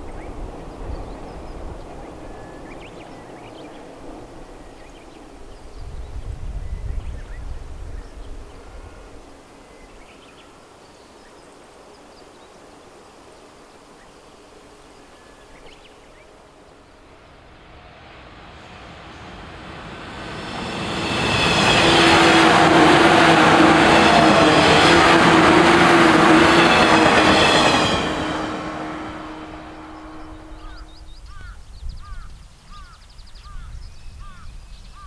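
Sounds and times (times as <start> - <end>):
electric train passing: 0.0 - 34.4
outdoor ambience: 0.0 - 35.0.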